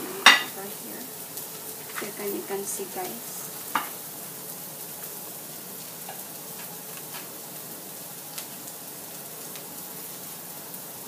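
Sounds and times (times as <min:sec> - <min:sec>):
onion and garlic frying in oil: 0:00.0 - 0:11.0.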